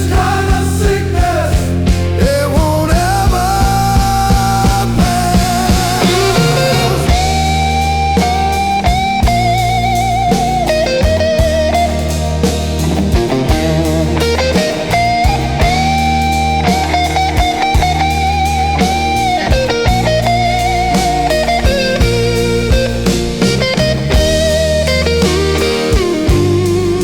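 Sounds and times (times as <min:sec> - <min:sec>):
bass: 0:00.0 - 0:27.0
drum kit: 0:00.0 - 0:27.0
lead electric guitar: 0:00.0 - 0:27.0.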